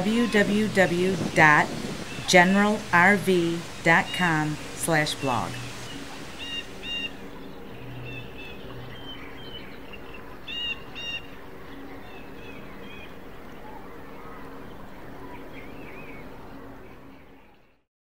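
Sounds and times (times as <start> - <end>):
small birds chirping: 0.0 - 17.3.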